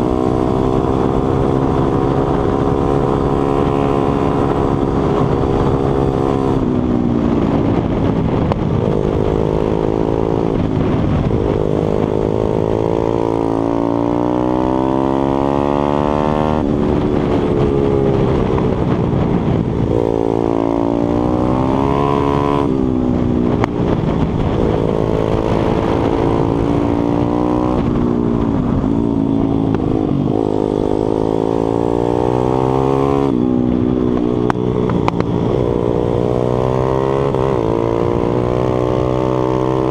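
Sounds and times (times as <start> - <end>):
motorbike engine revving: 0.0 - 39.9
wind rush: 0.0 - 39.9.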